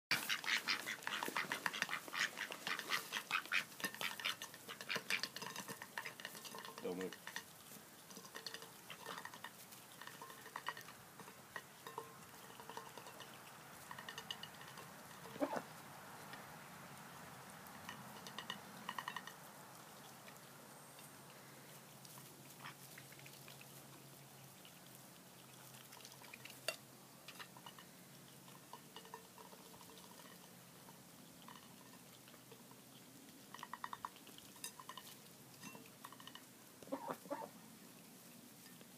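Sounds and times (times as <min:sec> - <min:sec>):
ducks dabbling and slurping food: 0:00.1 - 0:38.9.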